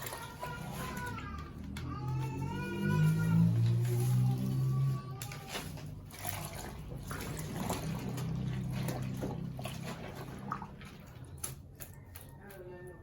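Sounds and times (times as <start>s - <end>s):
water sloshing and splashing: 0.0s - 12.3s.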